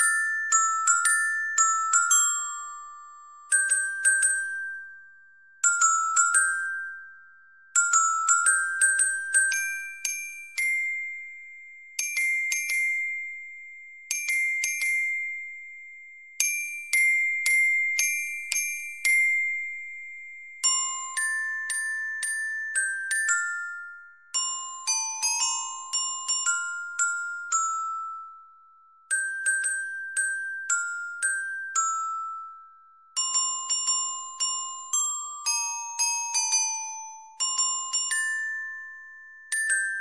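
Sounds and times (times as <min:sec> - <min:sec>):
glockenspiel melody: 0:00.0 - 0:40.0.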